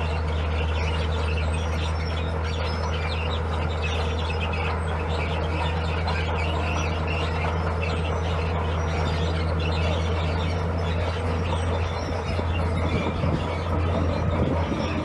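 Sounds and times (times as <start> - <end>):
diesel machine engine droning: 0.0 - 15.0.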